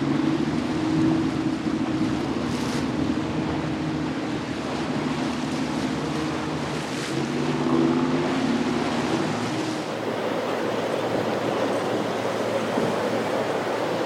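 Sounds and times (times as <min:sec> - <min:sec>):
motorboat engines droning: 0:00.0 - 0:14.0
waves washing: 0:00.0 - 0:14.0
wind buffeting microphone: 0:00.0 - 0:14.0.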